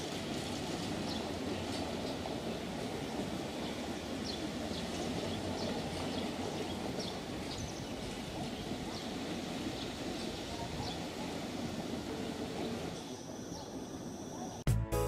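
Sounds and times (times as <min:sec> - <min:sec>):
train rumbling on track: 0:00.0 - 0:14.6.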